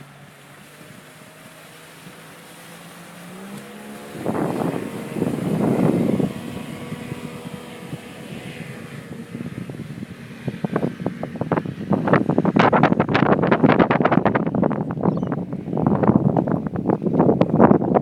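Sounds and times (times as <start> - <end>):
motorboat engine speeding up: 0.0 - 18.0
rushing wind or water noise: 0.0 - 18.0.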